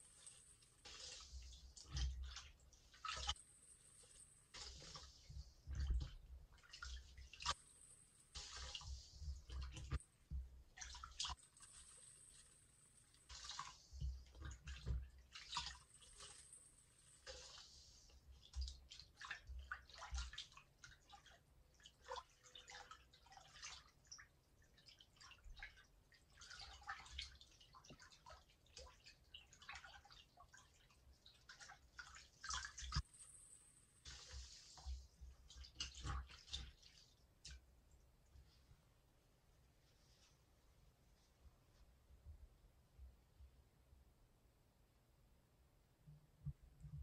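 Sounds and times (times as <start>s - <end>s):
sponge squelching under water: 0.0s - 37.8s.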